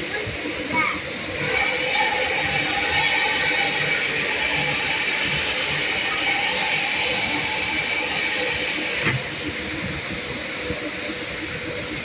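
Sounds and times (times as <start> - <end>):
car wash equipment hissing: 0.0 - 12.0.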